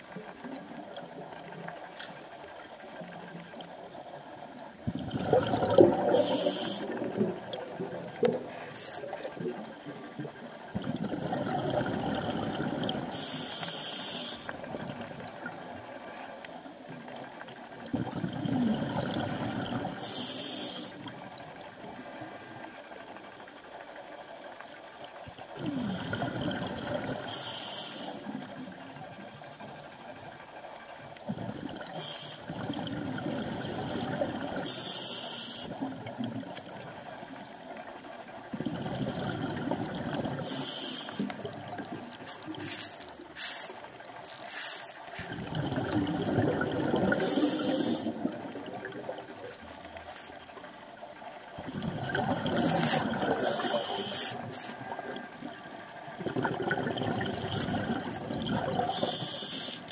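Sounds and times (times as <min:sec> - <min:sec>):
exhaled bubbles underwater: 0:03.0 - 0:15.9, 0:16.9 - 0:22.2, 0:25.2 - 0:29.3, 0:31.1 - 0:37.8, 0:38.4 - 0:44.3, 0:45.0 - 0:50.6, 0:51.2 - 0:59.9.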